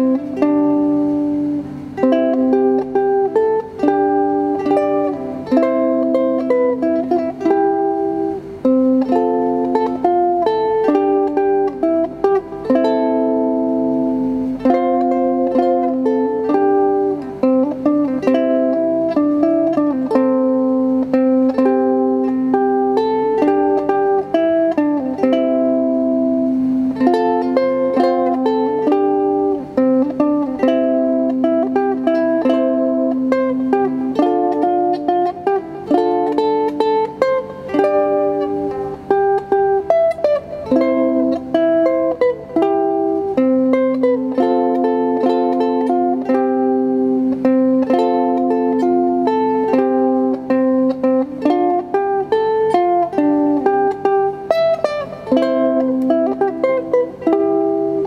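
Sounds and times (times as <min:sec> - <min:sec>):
solo ukulele melody: 0:00.0 - 0:58.0.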